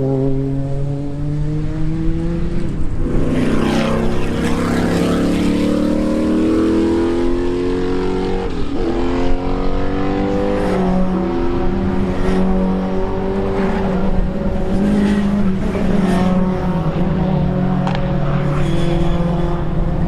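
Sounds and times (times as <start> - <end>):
racing car engine accelerating: 0.0 - 20.0.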